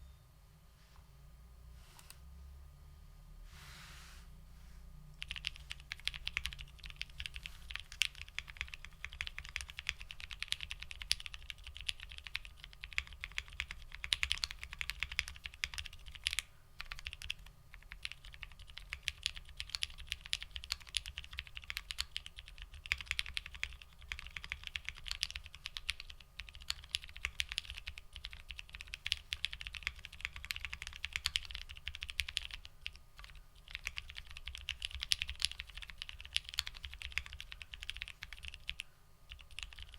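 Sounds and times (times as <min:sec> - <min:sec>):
mechanical keyboard typing: 0:05.2 - 0:39.9.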